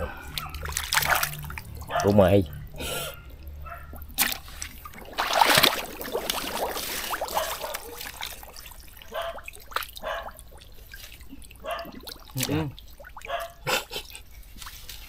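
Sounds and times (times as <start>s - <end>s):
shallow water splashing: 0.0s - 15.0s.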